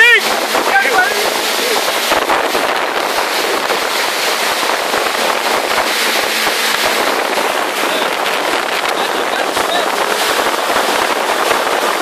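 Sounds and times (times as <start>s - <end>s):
jet ski engine running: 0.0s - 12.0s
rush of water spray: 0.0s - 12.0s
wind buffeting the microphone: 0.0s - 12.0s.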